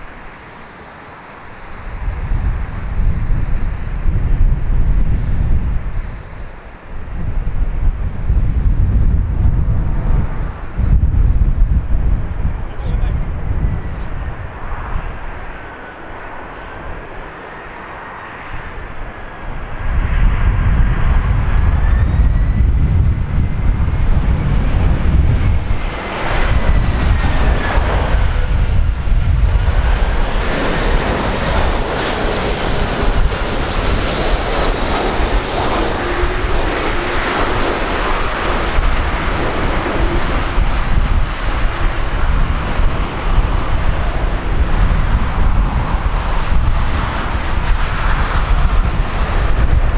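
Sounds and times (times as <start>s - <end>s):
jet airliner passing low: 0.0s - 49.9s.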